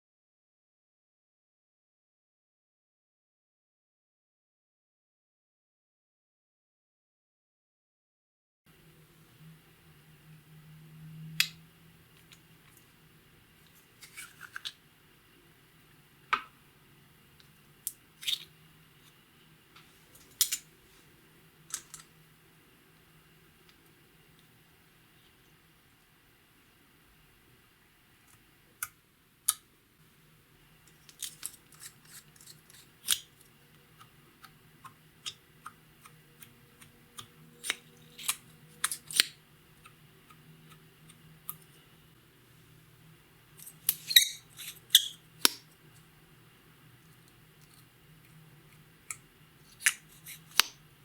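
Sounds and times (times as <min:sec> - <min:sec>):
faint low hum: 0:08.7 - 0:51.0.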